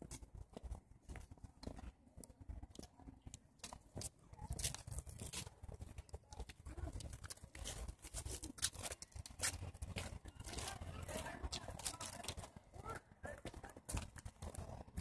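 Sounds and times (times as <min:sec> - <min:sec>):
footsteps on concrete: 0:00.0 - 0:15.0.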